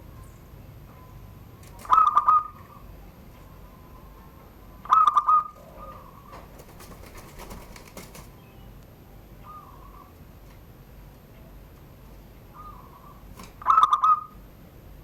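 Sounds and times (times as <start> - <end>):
dove cooing: 0.0 - 10.4, 12.4 - 14.5.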